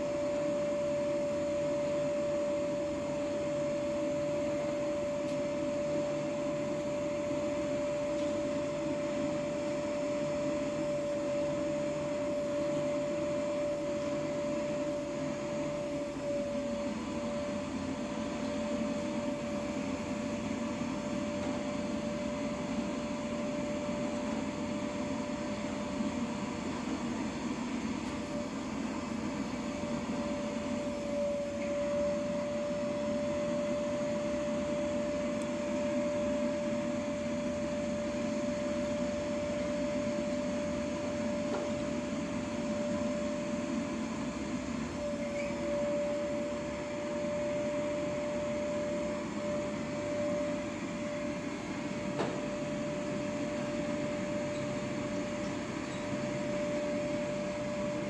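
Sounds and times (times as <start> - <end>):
machine hum with whining tone: 0.0 - 58.0.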